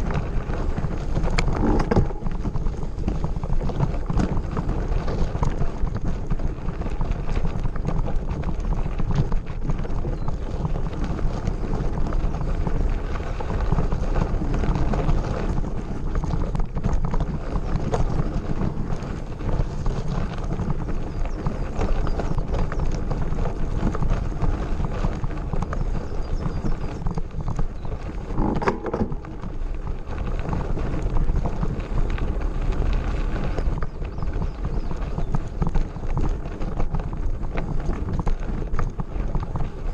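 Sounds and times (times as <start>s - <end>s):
bike rattling over gravel: 0.0s - 39.9s
wind rumble on microphone: 0.0s - 39.9s.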